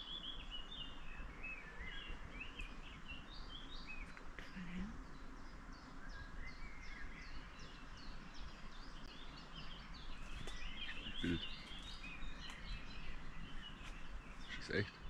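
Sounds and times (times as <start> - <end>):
birds twittering: 0.0 - 15.0.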